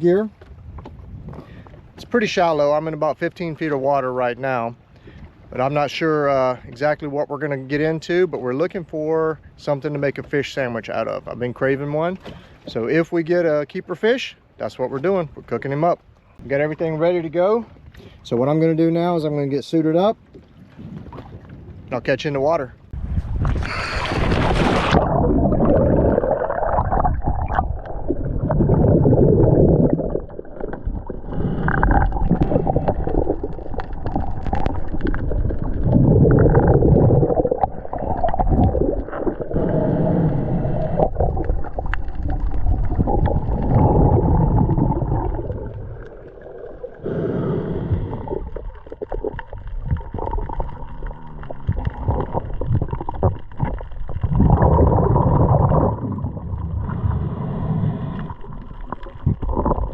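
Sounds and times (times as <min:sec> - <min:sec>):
underwater gurgling and sloshing: 0:00.0 - 0:59.9.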